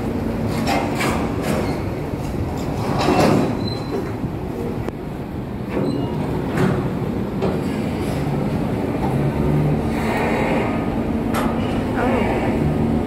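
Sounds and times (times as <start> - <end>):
ship machinery rumble: 0.0 - 13.0.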